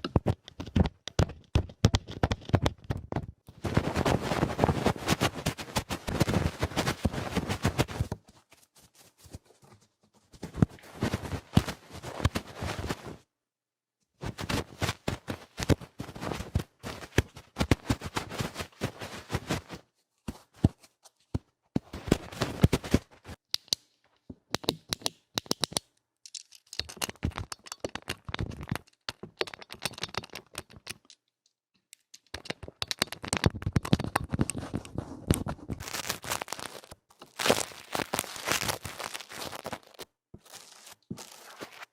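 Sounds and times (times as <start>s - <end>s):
scratching and crackling at microphone: 0.0s - 13.2s, 14.2s - 23.4s, 24.3s - 31.3s, 31.9s - 41.9s.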